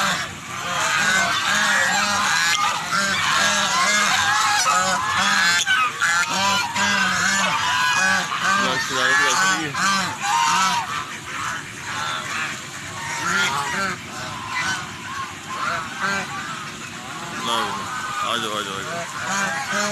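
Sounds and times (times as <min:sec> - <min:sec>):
ducks quacking: 0:00.0 - 0:19.9.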